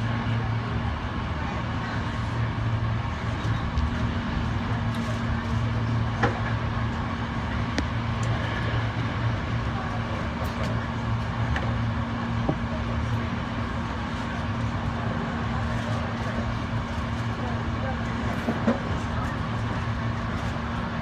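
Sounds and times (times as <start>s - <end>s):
constant low hum: 0.0s - 21.0s
train rumbling on track: 0.0s - 21.0s.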